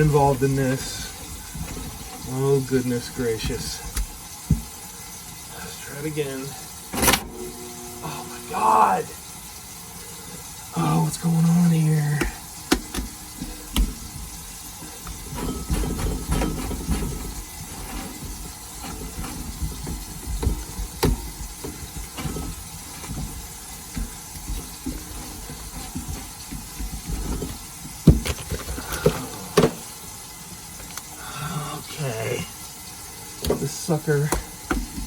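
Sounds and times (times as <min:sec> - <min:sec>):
garbage disposal clunks and rumbles: 0:00.0 - 0:35.0.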